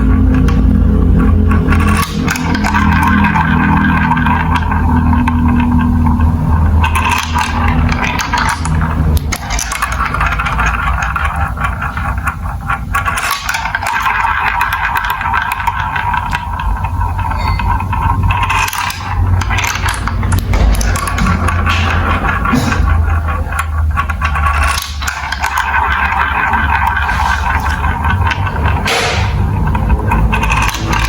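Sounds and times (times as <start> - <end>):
marbles clicking and clattering: 0.0 - 31.0
marbles rolling on plastic tracks: 0.0 - 31.0.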